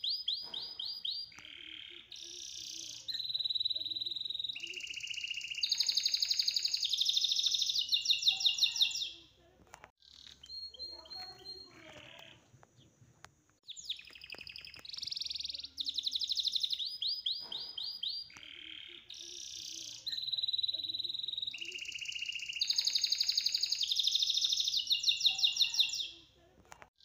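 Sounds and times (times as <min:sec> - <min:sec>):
high-pitched chirping and trills: 0:00.0 - 0:09.3, 0:10.0 - 0:12.4, 0:13.6 - 0:26.3.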